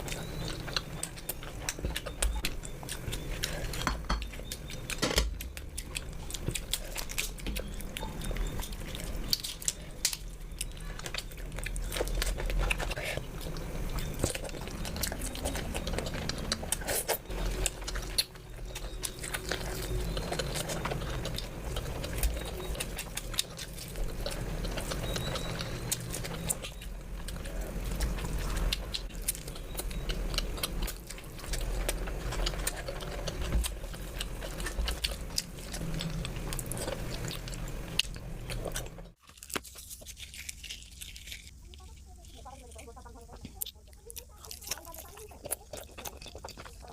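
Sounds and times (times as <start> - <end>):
chewing and biting: 0.0 - 46.9.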